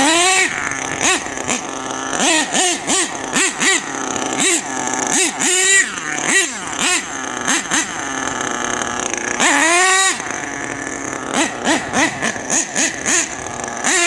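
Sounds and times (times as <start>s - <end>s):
engine revving whine: 0.0s - 14.0s
engine throttle blips: 0.0s - 14.0s
model truck engine idling: 0.0s - 14.0s.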